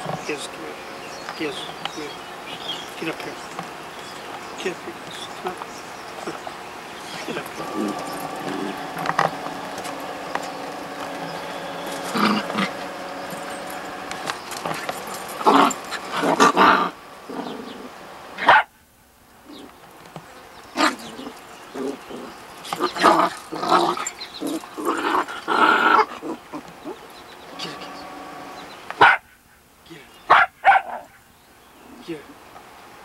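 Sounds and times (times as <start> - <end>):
dogs barking and growling: 0.0 - 18.7, 20.6 - 29.3, 30.3 - 31.2.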